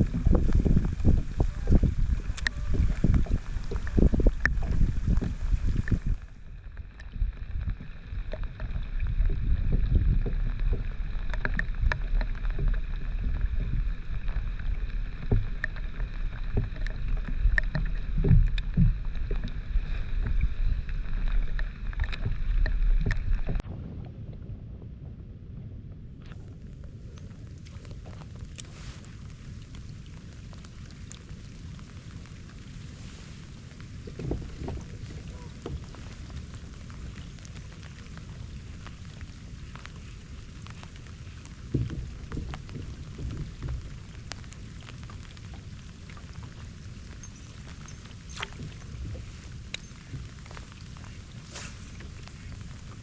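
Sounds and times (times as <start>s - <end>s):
water sloshing against hull: 0.0s - 53.0s
wind rumble on microphone: 0.0s - 53.0s.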